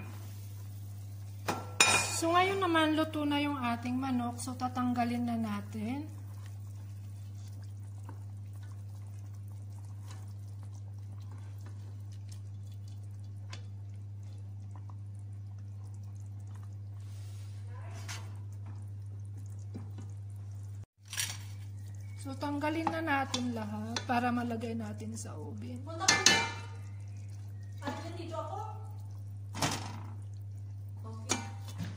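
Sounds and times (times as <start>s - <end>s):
faint drips: 3.0s - 20.9s, 21.5s - 31.9s.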